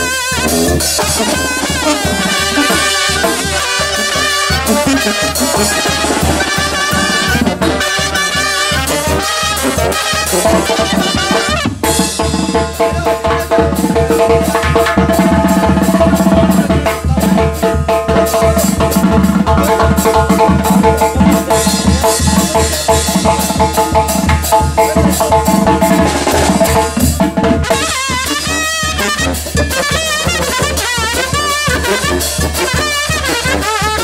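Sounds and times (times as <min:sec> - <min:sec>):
brass band playing: 0:00.0 - 0:34.0.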